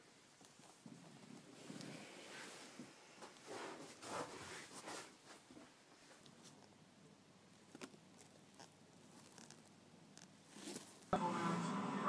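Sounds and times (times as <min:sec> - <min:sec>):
soft rustling: 0:00.0 - 0:06.8, 0:07.5 - 0:11.1.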